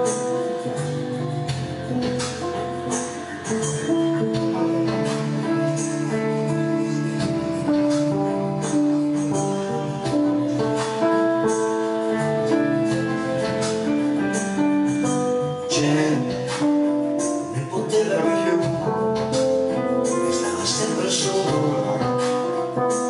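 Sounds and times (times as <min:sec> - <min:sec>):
keyboard music: 0:00.0 - 0:23.0
regular percussion beat: 0:00.0 - 0:23.0.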